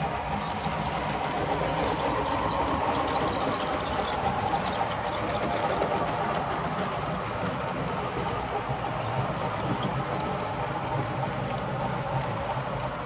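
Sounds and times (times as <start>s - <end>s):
model train wheels on rails: 0.0s - 13.0s.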